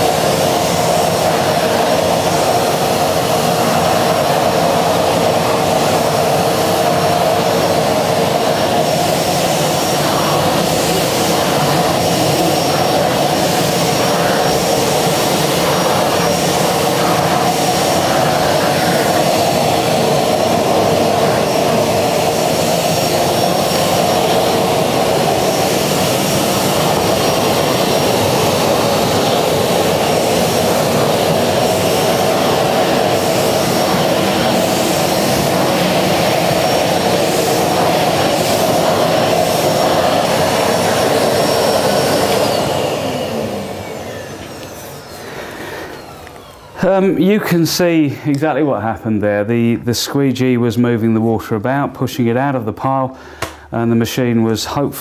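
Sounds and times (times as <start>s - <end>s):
water sucking rush: 0.0s - 48.0s
vacuum cleaner whining: 0.0s - 55.0s.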